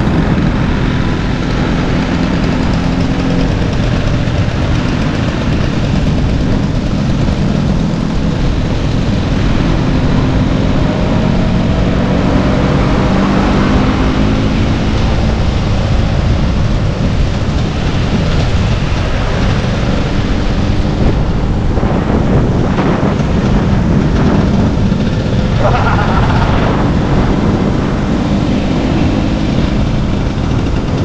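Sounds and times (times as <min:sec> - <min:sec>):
road and wind noise: 0:00.0 - 0:31.0
scooter engine running: 0:00.0 - 0:31.0.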